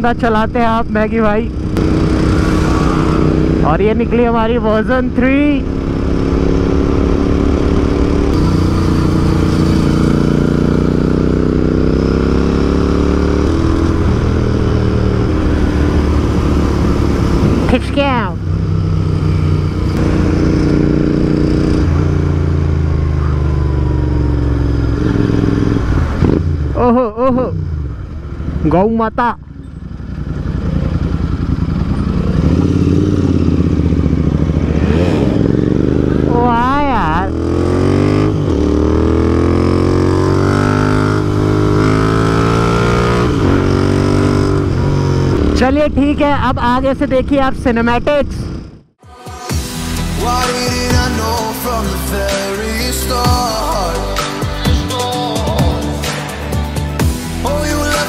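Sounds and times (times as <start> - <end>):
motorcycle engine accelerating: 0.0 - 47.4
wind and road noise: 0.0 - 53.6.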